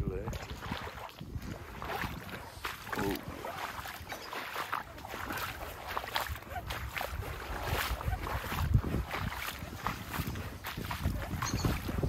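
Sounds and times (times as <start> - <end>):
water sloshing: 0.0 - 12.0
wind buffeting microphone: 0.0 - 12.0.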